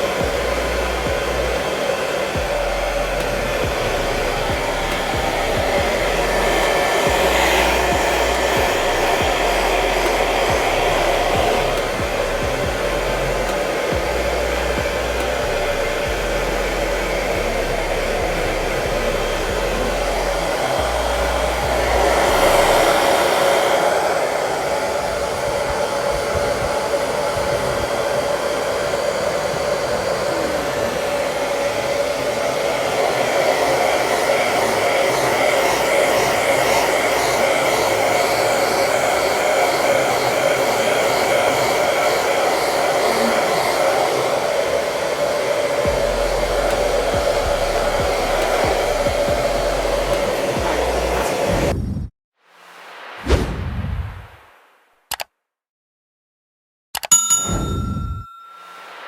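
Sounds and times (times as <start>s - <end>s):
hair dryer blowing: 0.0s - 52.0s.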